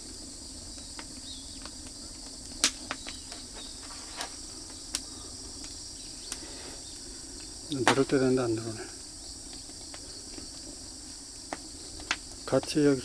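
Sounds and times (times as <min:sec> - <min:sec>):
crickets chirring: 0:00.0 - 0:13.0
wood fire crackling: 0:00.0 - 0:13.0.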